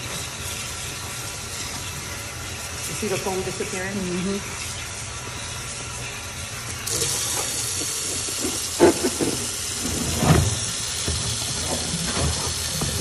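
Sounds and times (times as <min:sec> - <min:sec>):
tap water pouring into tub: 0:00.0 - 0:13.0.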